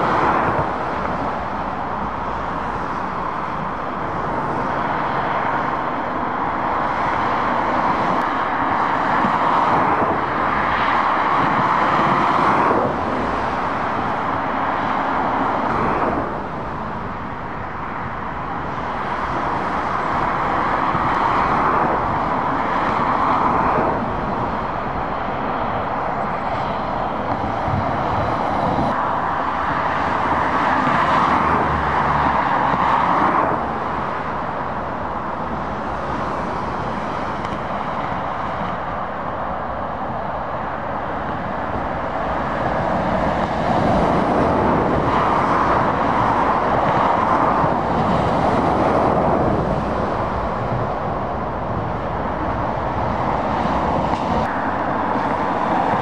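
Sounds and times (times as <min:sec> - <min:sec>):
traffic passing: 0:00.0 - 0:56.0.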